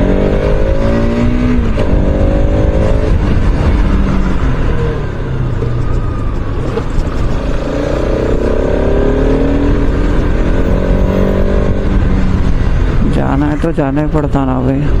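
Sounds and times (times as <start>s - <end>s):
motorcycle engine accelerating: 0.0s - 14.0s
wind on microphone: 0.0s - 15.0s.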